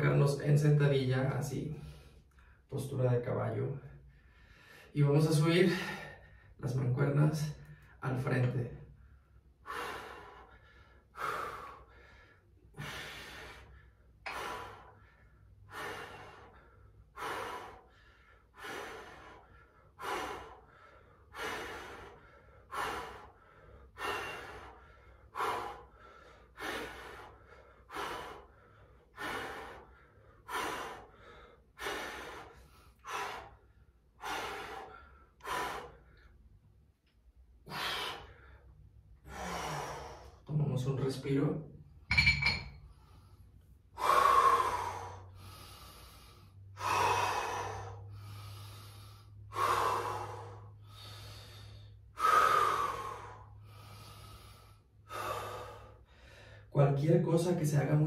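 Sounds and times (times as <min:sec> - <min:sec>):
man breathing hard: 0:01.7 - 0:02.7, 0:03.8 - 0:06.7, 0:07.4 - 0:08.0, 0:08.8 - 0:40.5, 0:41.8 - 0:56.8.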